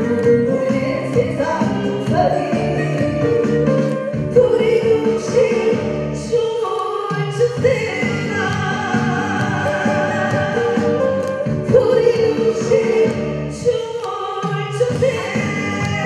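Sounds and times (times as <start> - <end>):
instrumental accompaniment: 0.0 - 16.0
person singing into a microphone: 0.0 - 16.0.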